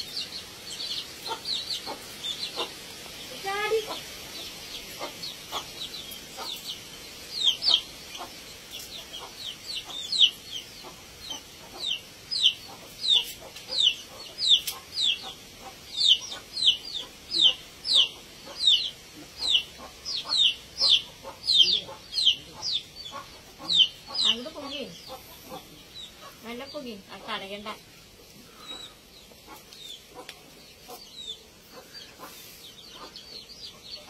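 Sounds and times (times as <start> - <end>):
bird peeping: 0.0 - 27.0, 27.6 - 34.0.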